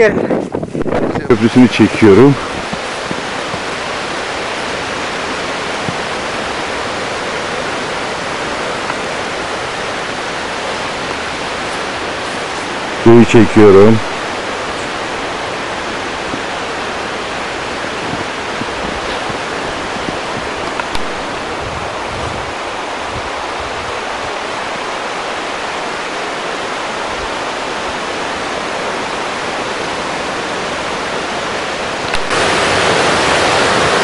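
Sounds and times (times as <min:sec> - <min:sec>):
fast-flowing stream rushing: 0:00.8 - 0:34.0.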